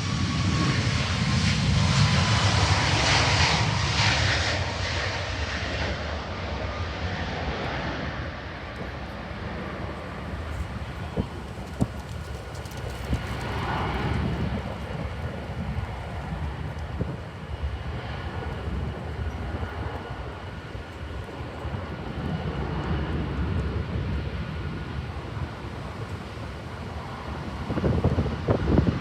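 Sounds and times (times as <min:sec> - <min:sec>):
jet engines rumbling: 0:00.0 - 0:29.0.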